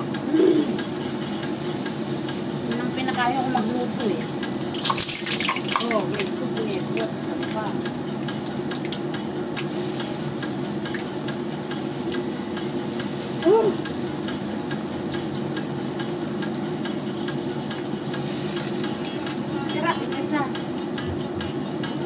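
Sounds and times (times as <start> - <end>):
oil popping crackles: 0.0 - 21.4
food sizzling in hot oil: 0.0 - 22.0.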